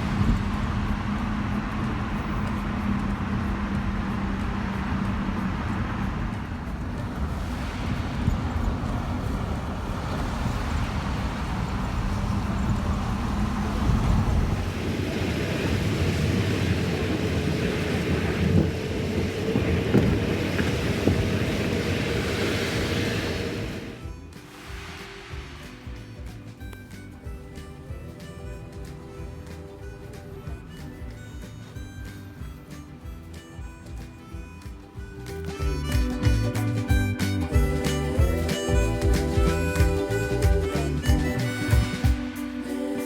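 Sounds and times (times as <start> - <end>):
high-speed train running: 0.0 - 43.0.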